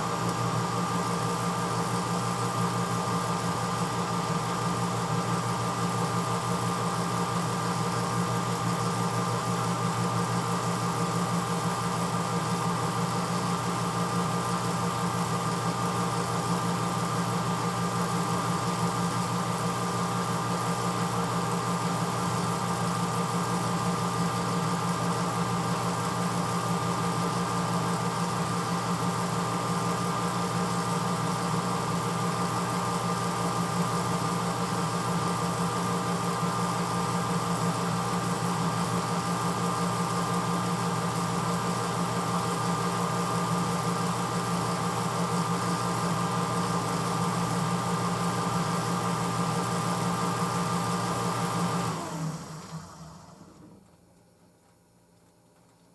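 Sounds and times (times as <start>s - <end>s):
dishwasher motor humming and whining: 0.0s - 54.0s.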